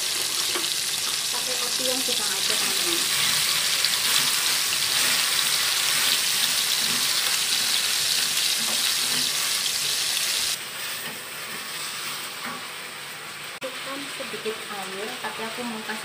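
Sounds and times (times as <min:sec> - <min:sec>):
chicken sizzling in a wok: 0:00.0 - 0:16.0.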